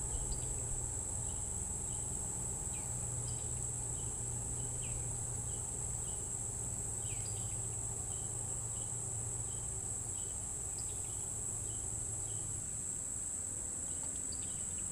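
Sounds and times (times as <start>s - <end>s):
insects trilling: 0.0s - 14.9s.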